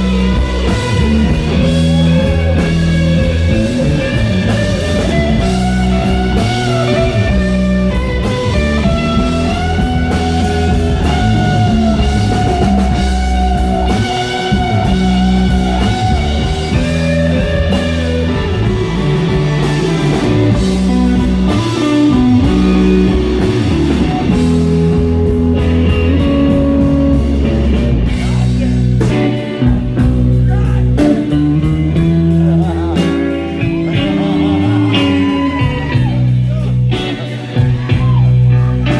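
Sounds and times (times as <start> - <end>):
lead guitar bent notes: 0.0 - 38.9
rock band playing: 0.0 - 38.9.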